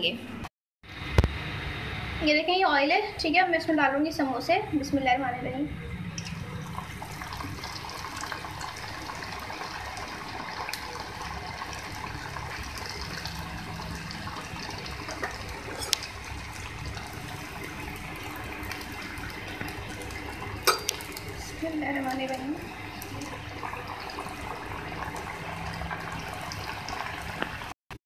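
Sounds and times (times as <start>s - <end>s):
oil sizzling and bubbling: 0.8s - 27.8s.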